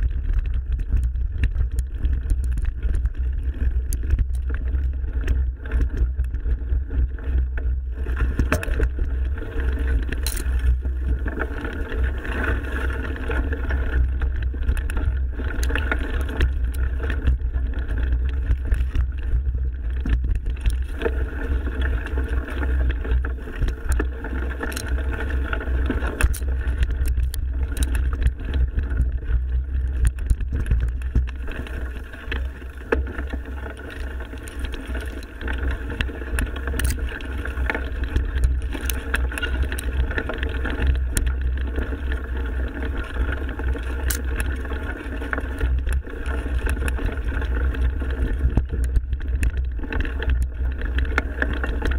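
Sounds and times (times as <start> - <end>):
bike clicks and rattles: 0.0 - 51.9
wind and rolling tyres rumble: 0.0 - 51.9.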